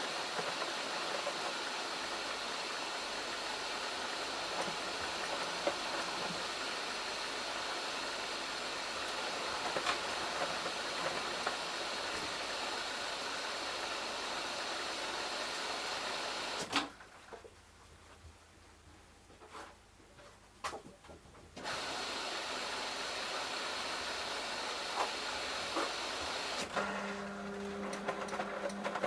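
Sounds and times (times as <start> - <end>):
water running into washing machine: 0.0 - 16.7, 21.6 - 29.0.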